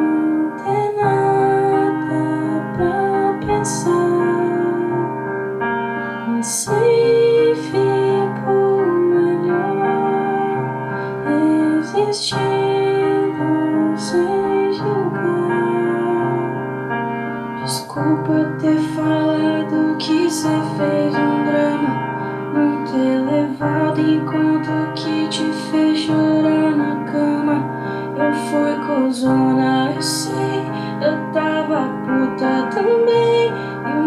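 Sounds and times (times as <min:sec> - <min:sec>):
woman singing slow melody: 0:00.0 - 0:05.4, 0:06.0 - 0:16.8, 0:17.6 - 0:34.0
electronic keyboard chords: 0:00.0 - 0:34.0.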